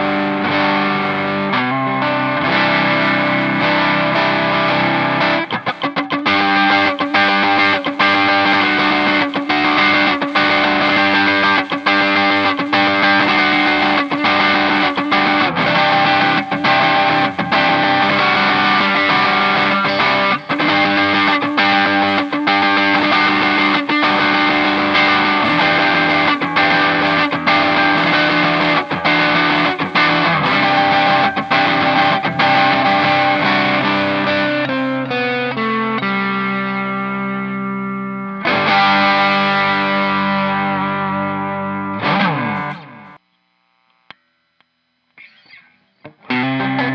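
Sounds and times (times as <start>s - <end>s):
distorted electric guitar strumming: 0.0s - 44.2s, 44.8s - 46.9s.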